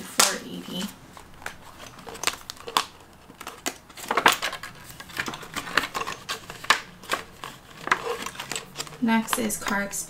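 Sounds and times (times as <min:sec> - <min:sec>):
paper banknotes rustling: 0:00.2 - 0:10.0
plastic envelopes crinkling: 0:00.2 - 0:10.0.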